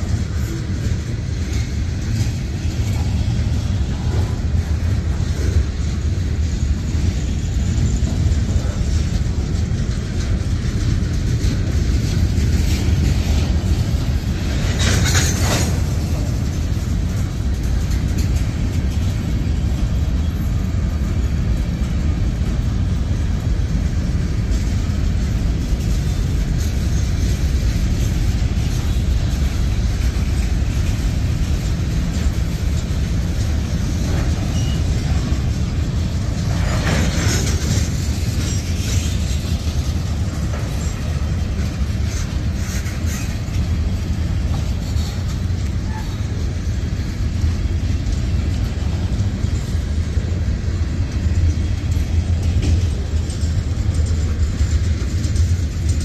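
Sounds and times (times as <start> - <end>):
steel wheels rumbling on rail: 0.0 - 56.0
wheels screeching on rail: 0.0 - 56.0.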